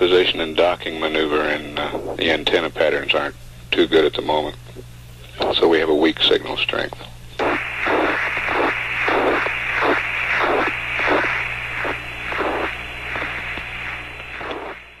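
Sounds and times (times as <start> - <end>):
low steady hum: 0.0 - 15.0
radio static hiss: 0.0 - 15.0.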